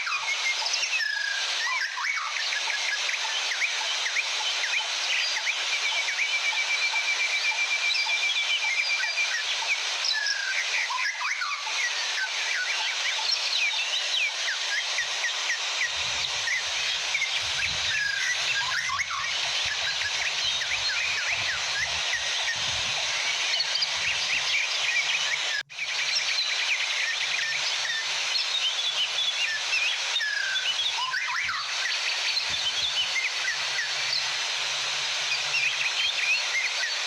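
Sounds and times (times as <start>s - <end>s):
small waterfall rushing: 0.0s - 37.0s.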